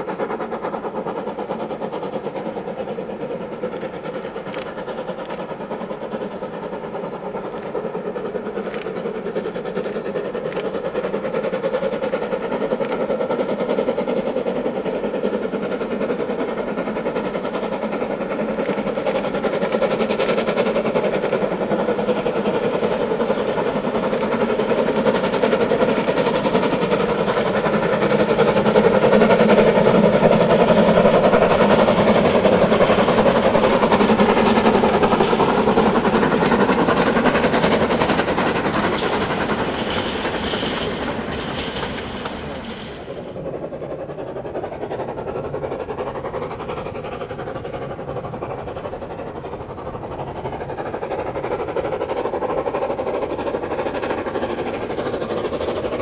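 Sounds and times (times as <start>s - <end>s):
steam locomotive exhaust beat: 0.0s - 56.0s.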